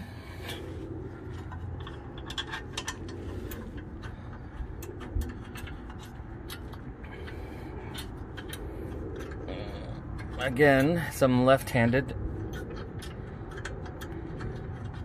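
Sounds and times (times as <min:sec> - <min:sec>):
low steady rumble: 0:00.0 - 0:15.0
metallic clicks and scrapes: 0:00.3 - 0:15.0.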